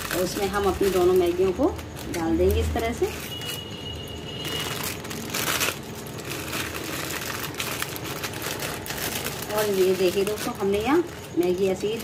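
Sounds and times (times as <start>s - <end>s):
rustling crinkling handling: 0.0s - 12.0s.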